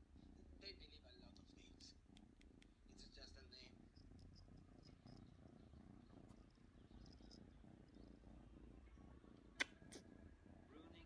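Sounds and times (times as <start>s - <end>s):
kitten purring: 0.0s - 11.0s.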